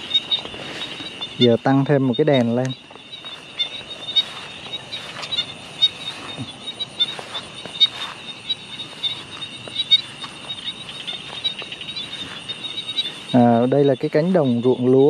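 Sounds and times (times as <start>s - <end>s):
short sharp calls: 0.0s - 14.6s
insects and frogs trilling: 0.0s - 15.0s.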